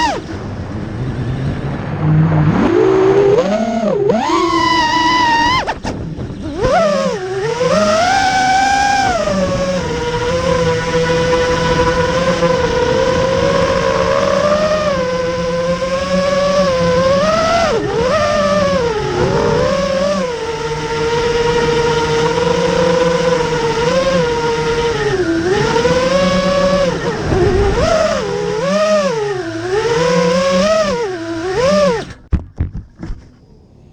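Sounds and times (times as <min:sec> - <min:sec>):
quadcopter motors whining: 0:00.0 - 0:32.3.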